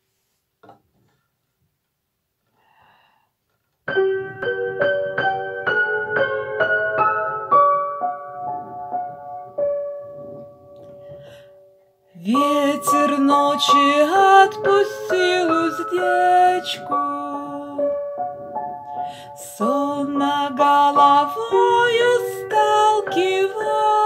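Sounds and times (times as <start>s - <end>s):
piano notes: 3.8s - 24.0s.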